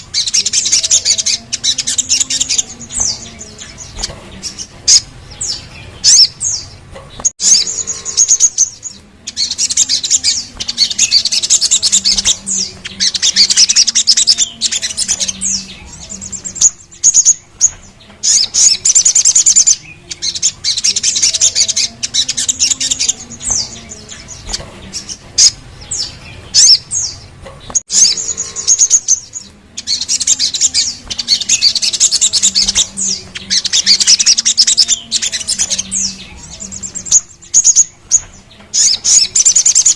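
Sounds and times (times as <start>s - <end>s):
bird chips: 0.0s - 39.9s
bird trilling: 0.0s - 39.9s.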